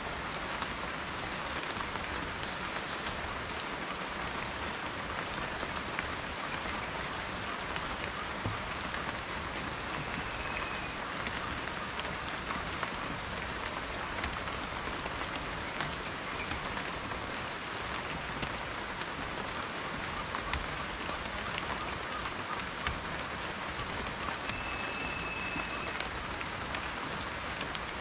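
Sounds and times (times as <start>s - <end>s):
steady rain on a surface: 0.0s - 28.0s.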